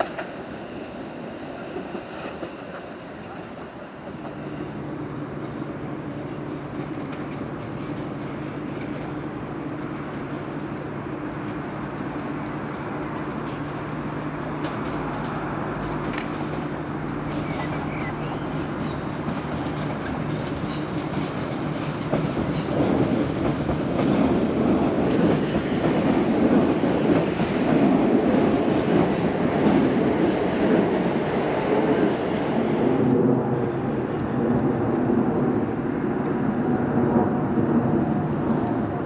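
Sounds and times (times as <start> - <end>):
electric train running past: 0.0 - 39.0.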